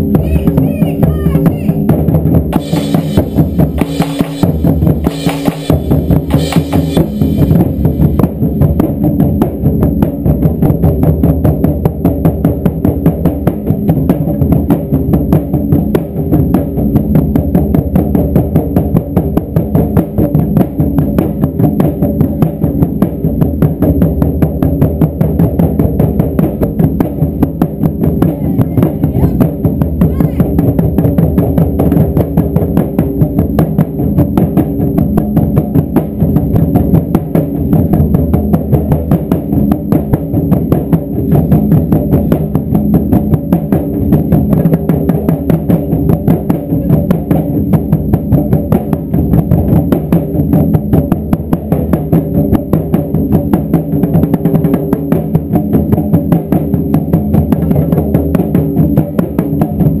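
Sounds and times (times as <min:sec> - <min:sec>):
drums pounding: 0:00.0 - 1:00.0.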